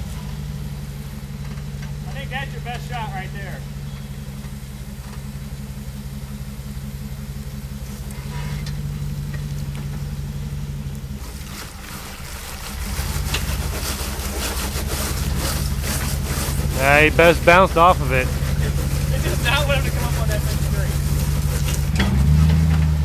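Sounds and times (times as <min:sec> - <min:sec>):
off-road truck engine: 0:00.0 - 0:23.0.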